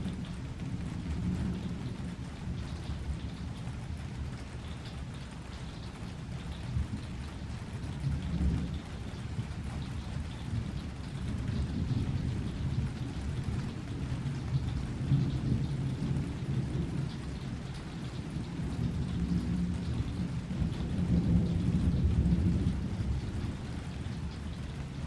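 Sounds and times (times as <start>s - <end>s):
thunder rumbling: 0.0s - 4.4s, 6.5s - 25.0s
rain falling: 0.0s - 25.0s.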